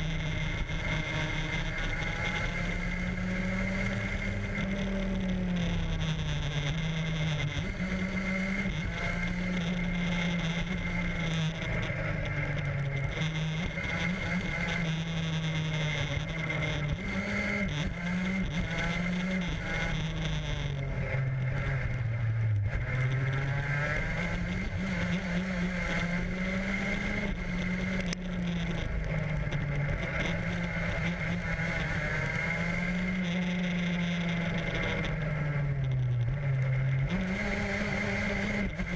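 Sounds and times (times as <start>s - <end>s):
kart engine revving: 0.0s - 38.9s
wind and road noise: 0.0s - 38.9s.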